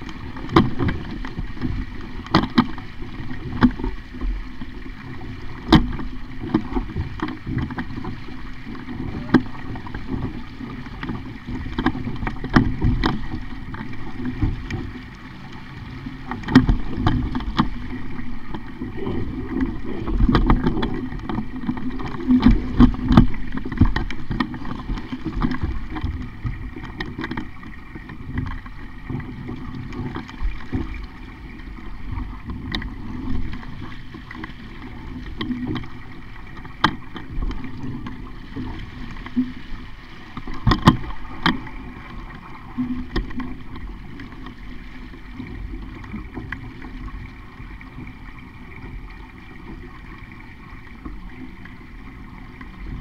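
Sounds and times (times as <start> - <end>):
boat knocks and clicks: 0.0 - 53.0
water slapping against hull: 0.0 - 53.0.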